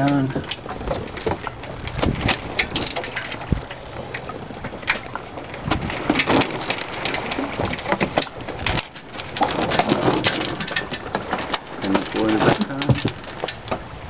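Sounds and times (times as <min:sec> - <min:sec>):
crackles and thumps: 0:00.0 - 0:14.0
wind and water rushing hiss: 0:00.0 - 0:14.0.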